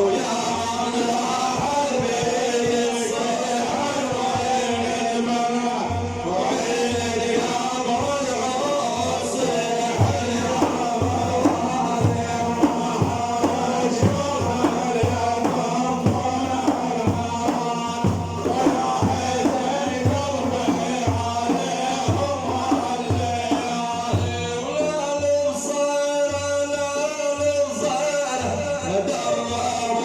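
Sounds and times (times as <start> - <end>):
steady drum beat: 0.0 - 25.3.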